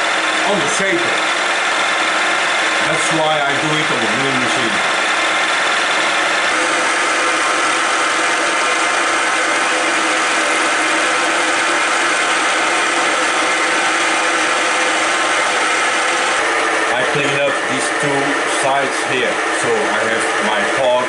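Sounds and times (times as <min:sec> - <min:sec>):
milling machine cutting metal: 0:00.0 - 0:21.0.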